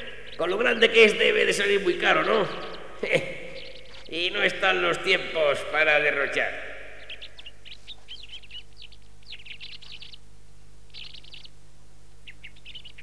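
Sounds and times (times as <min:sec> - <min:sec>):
small bird twittering: 0:00.0 - 0:05.4, 0:06.3 - 0:13.0.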